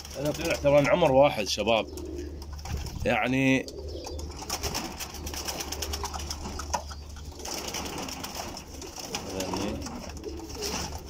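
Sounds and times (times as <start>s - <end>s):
pigeons cooing: 0.0s - 11.0s
steady low hum: 0.0s - 11.0s.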